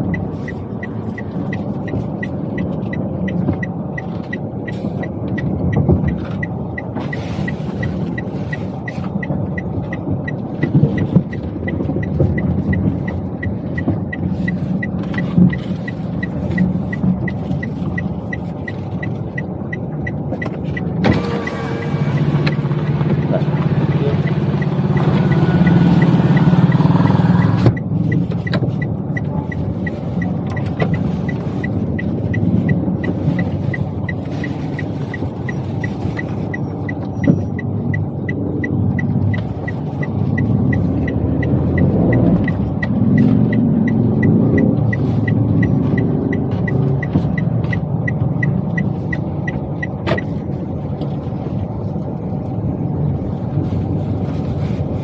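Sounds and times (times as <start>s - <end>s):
car engine and road noise: 0.0s - 55.0s
turn signal ticking: 0.0s - 55.0s.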